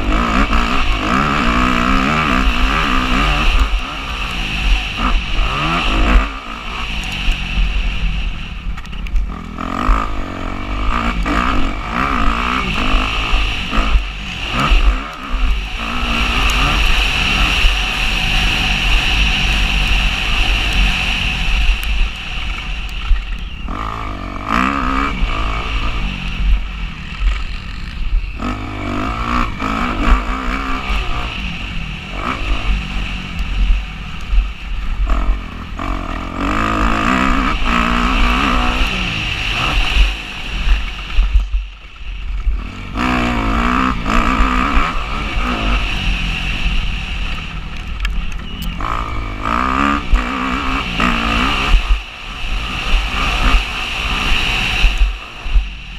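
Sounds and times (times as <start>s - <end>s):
motocross engine revving: 0.0s - 55.9s
wind rumble on microphone: 0.0s - 55.9s.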